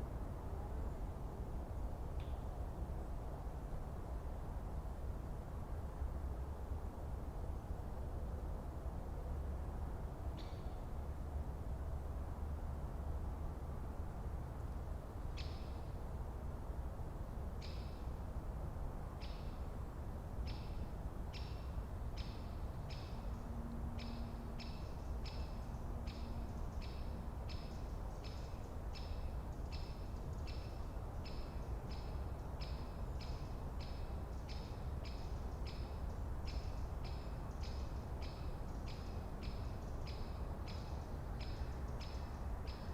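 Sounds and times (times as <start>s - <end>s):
faint low hum: 0.0s - 42.9s.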